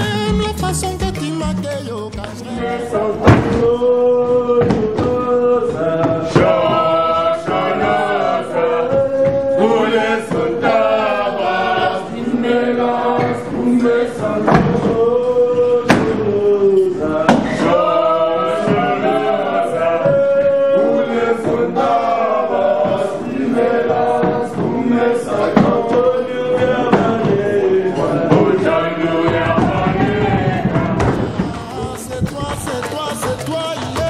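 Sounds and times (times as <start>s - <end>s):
group chanting choral song: 2.3s - 32.2s.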